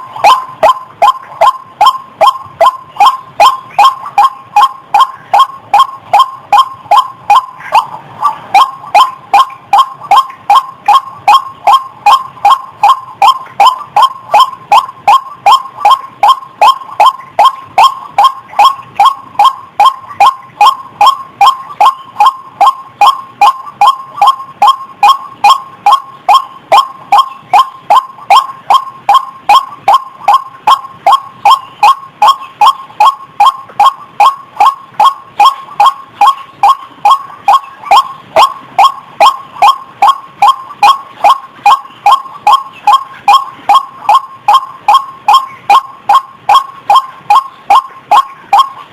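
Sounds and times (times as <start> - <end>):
waterhen calling nasal notes: 0.0 - 48.9.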